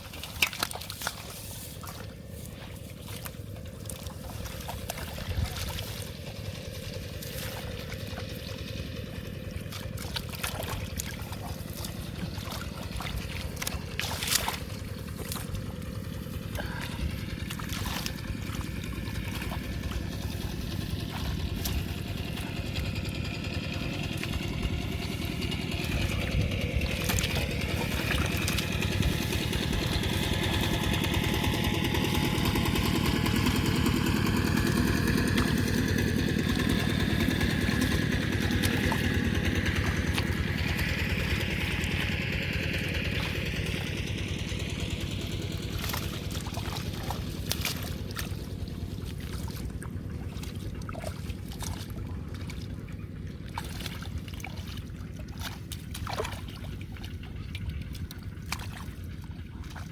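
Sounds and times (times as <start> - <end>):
water trickling: 0.0 - 44.4, 45.1 - 59.9
small engine running: 0.0 - 59.9.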